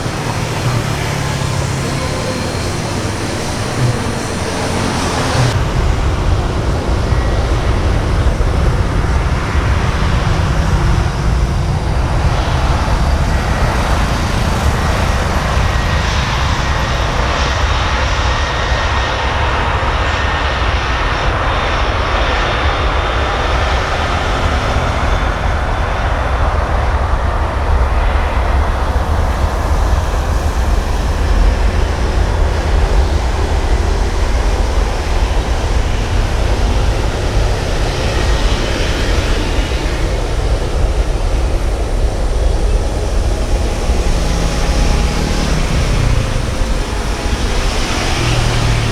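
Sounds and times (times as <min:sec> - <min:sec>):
jet engines roaring: 0:00.0 - 0:48.9.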